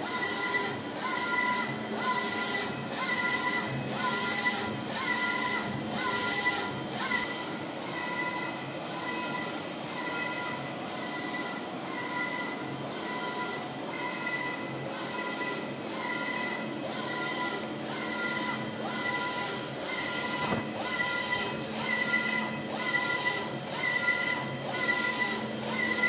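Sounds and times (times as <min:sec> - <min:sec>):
printer carriage motor whining: 0:00.0 - 0:26.0.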